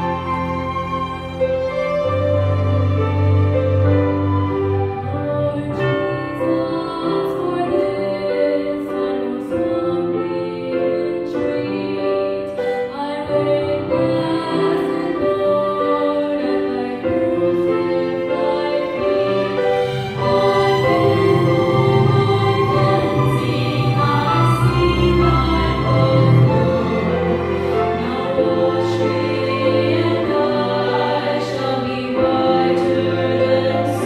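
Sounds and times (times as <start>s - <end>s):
instrumental ensemble: 0.0s - 34.0s
piano: 0.0s - 34.0s
women singing: 5.0s - 34.0s.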